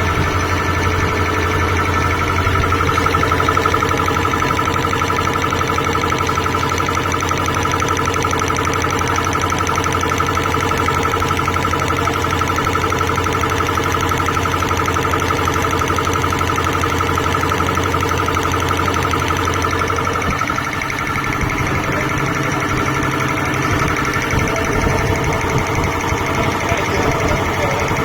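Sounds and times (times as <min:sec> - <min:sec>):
air compressor running: 0:00.0 - 0:28.0.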